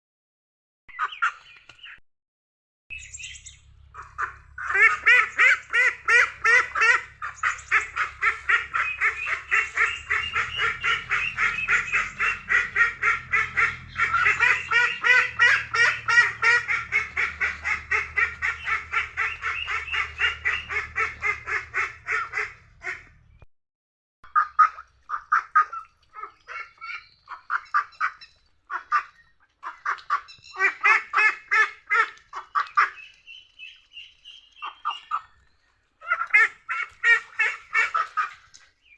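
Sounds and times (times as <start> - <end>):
ducks quacking: 3.8 - 23.4, 24.4 - 33.5, 36.0 - 38.6.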